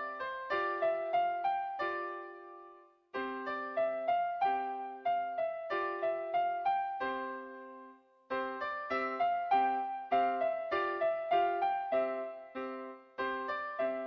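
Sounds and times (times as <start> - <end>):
solo piano piece: 0.0 - 14.0.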